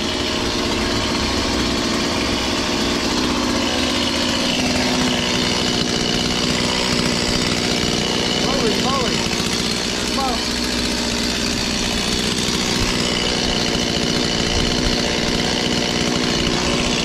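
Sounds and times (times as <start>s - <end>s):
chainsaw idling: 0.0s - 17.0s.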